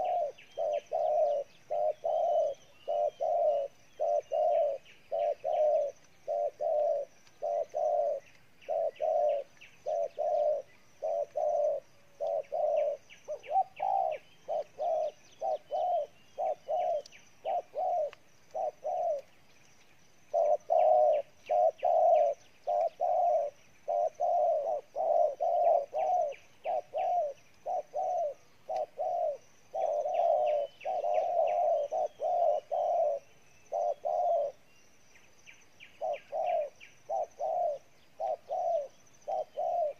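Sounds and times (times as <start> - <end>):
dove cooing: 0.0 - 19.3, 20.3 - 34.7, 35.8 - 39.9.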